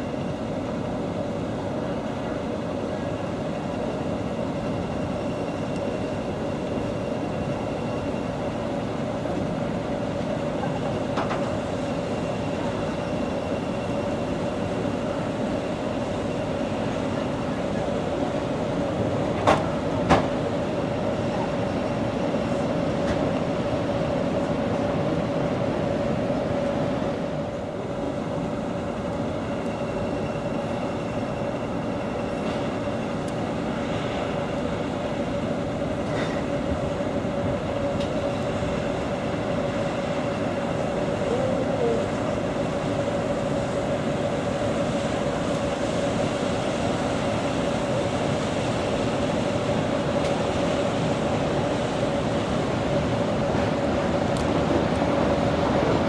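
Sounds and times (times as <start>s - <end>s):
ship engine drone: 0.0s - 56.0s.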